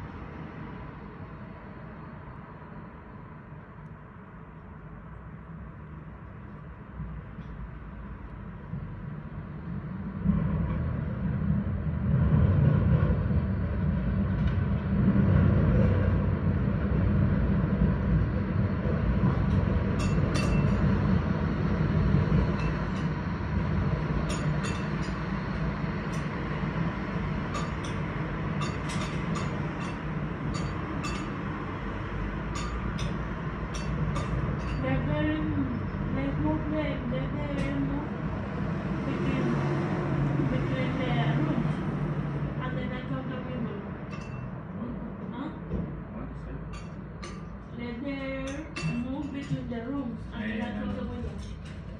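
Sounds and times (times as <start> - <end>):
rail vehicle rumbling past: 0.0 - 51.9.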